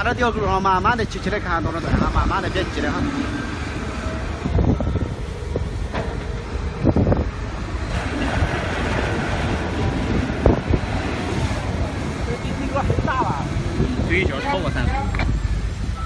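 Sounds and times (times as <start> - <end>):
crane hoist machinery rumbling: 0.8 - 16.0.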